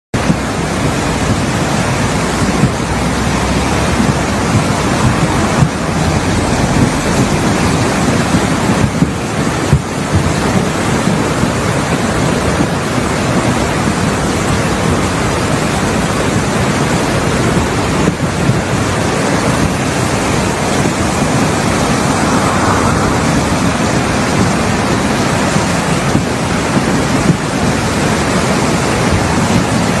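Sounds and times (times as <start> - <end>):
river water rushing: 0.2 - 30.0.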